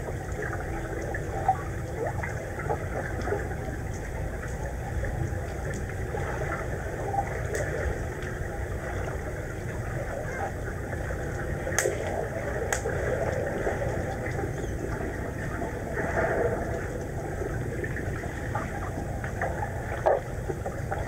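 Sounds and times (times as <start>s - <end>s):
underwater low rumble: 0.0s - 21.0s.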